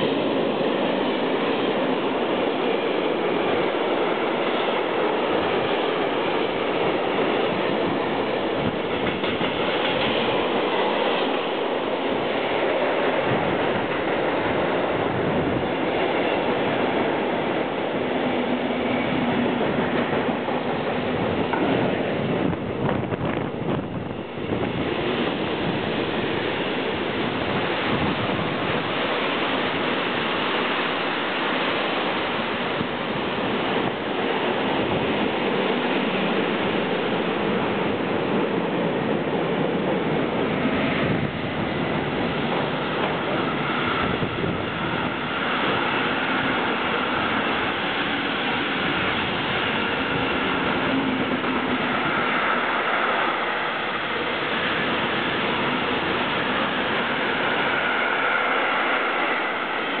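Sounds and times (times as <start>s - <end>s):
freight train wheels rushing on rails: 0.0s - 60.0s.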